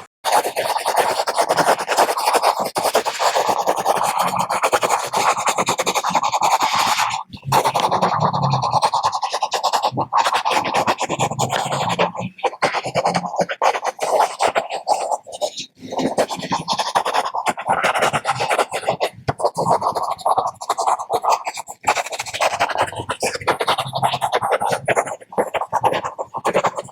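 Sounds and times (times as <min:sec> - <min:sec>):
stylus scratching on tablet screen: 0:00.0 - 0:26.9.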